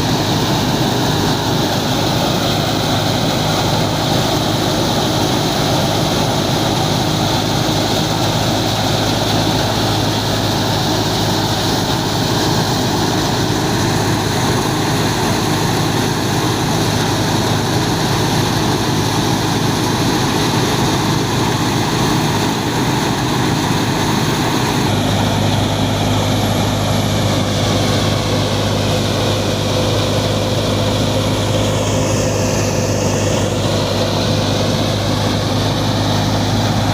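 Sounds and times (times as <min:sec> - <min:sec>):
thresher machine drone: 0:00.0 - 0:36.9
tractor diesel engine running: 0:00.0 - 0:36.9.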